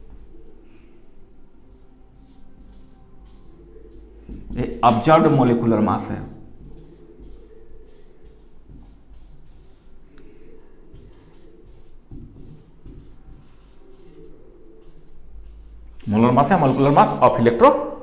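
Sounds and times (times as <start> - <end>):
marker pen writing on whiteboard: 1.7 - 17.3.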